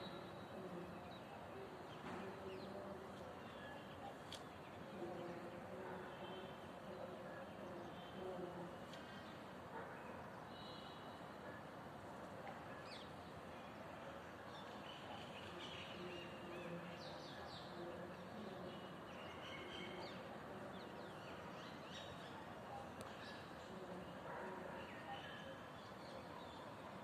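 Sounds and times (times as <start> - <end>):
faint background noise: 0.0 - 27.0.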